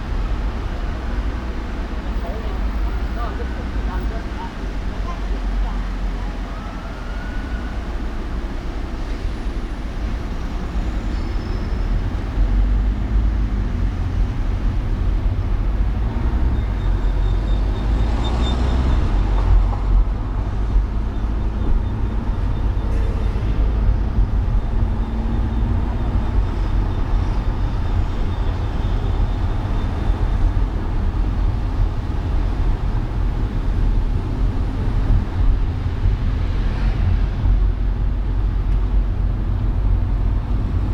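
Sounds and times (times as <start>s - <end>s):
car driving on city streets: 0.0s - 40.9s.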